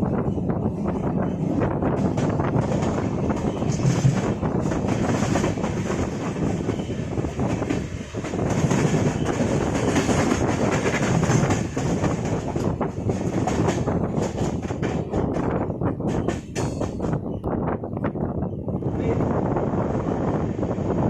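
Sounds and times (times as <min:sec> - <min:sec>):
train coach rumble and rattling: 0:00.0 - 0:21.0.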